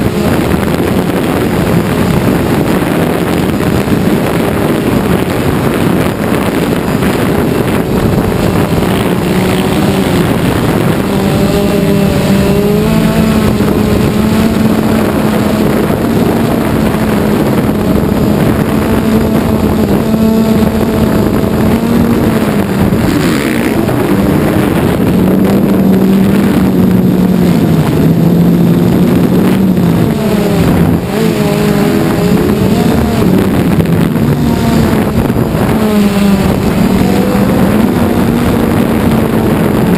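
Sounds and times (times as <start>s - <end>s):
drone motors humming: 0.0s - 39.9s.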